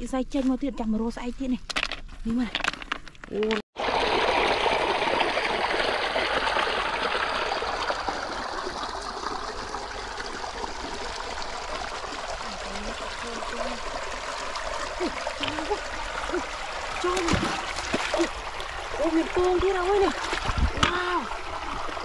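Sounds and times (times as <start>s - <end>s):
stream water trickling: 3.8s - 22.0s.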